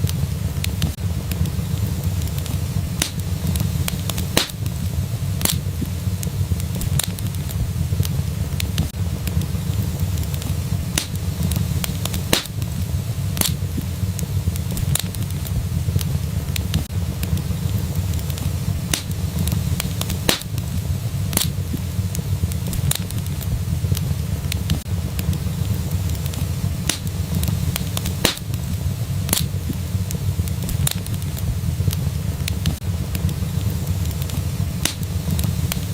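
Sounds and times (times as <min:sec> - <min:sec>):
fire low rumble: 0:00.0 - 0:35.9
wood fire crackling and popping: 0:00.0 - 0:35.9.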